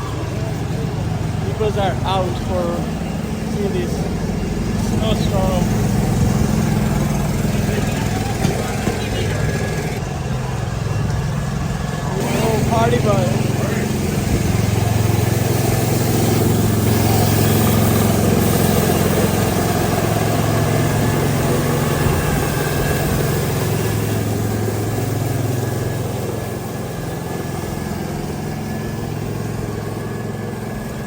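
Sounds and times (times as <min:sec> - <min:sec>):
street noise: 0:00.0 - 0:31.0
vehicle engine running: 0:00.0 - 0:31.0.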